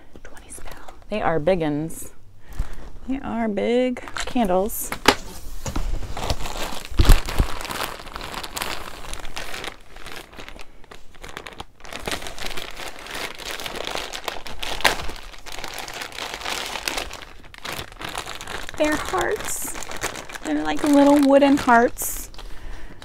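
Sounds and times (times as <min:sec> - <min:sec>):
plastic packaging crinkling: 0:04.0 - 0:23.0.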